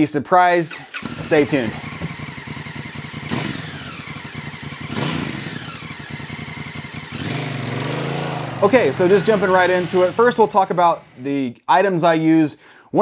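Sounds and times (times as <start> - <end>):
motorcycle engine revving: 0.7 - 11.4.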